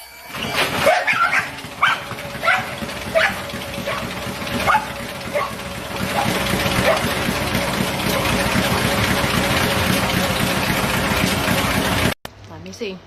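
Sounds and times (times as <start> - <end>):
treadmill motor and belt: 0.0 - 12.2
dog feet striking treadmill belt: 0.3 - 12.2.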